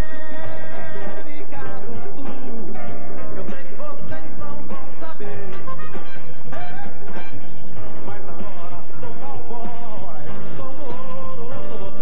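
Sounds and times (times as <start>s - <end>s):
live band music: 0.0s - 10.3s.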